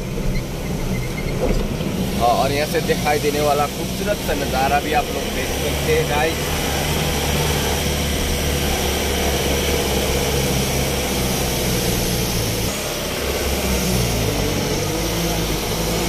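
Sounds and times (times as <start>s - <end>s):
truck engine heard from cab: 0.0s - 16.0s.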